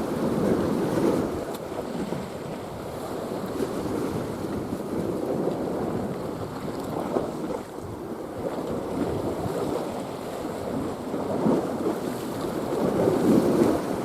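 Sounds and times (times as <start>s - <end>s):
sea waves washing in: 0.0s - 14.0s
wind buffeting microphone: 0.0s - 14.0s.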